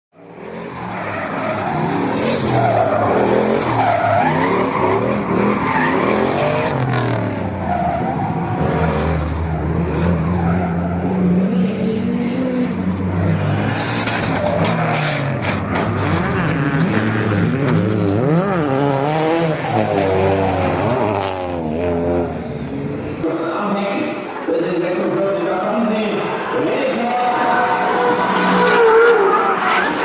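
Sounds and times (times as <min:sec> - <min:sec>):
tyres skidding and squealing: 0:00.2 - 0:30.0
car engine revving: 0:00.3 - 0:23.3, 0:26.3 - 0:30.0.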